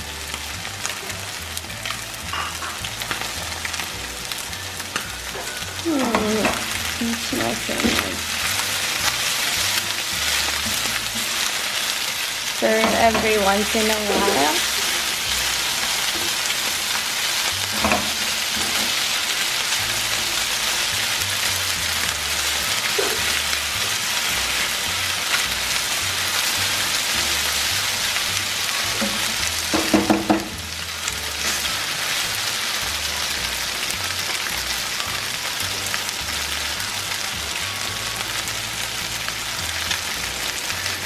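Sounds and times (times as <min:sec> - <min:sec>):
chicken sizzling in oil: 0:00.0 - 0:41.0.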